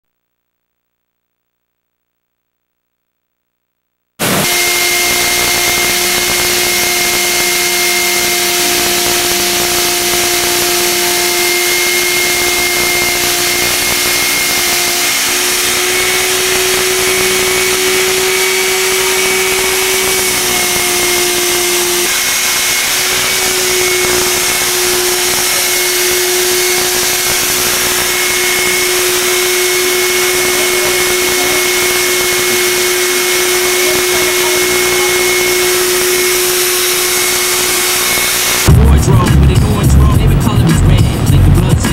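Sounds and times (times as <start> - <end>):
power tool motor whining: 4.2 - 38.7.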